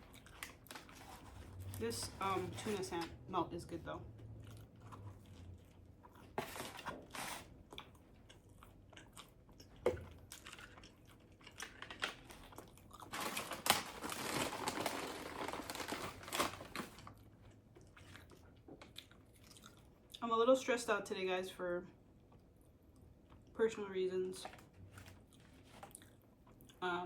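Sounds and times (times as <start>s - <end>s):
chewing and crunching sandwich: 0.0s - 2.6s, 4.0s - 20.2s, 22.0s - 23.6s, 24.4s - 26.9s.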